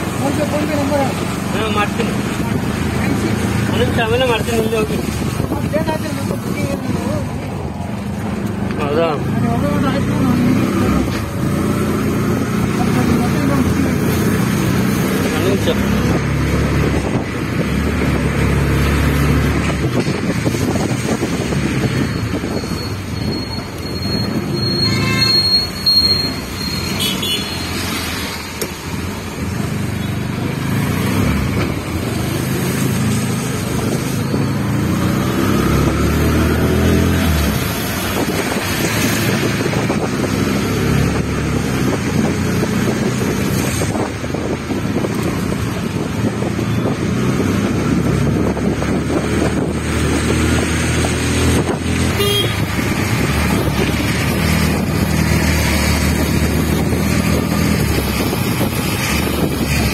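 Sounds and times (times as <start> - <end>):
traffic engines running: 0.0 - 59.9.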